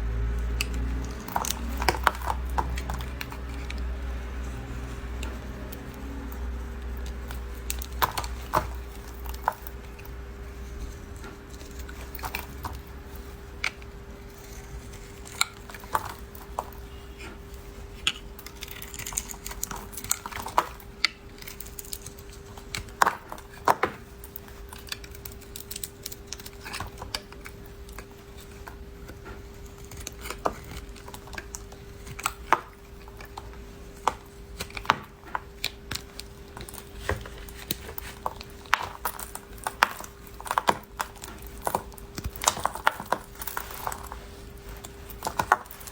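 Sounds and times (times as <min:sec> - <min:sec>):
faint steady hum: 0:00.0 - 0:45.9
knife cutting soap crackling: 0:00.1 - 0:45.9.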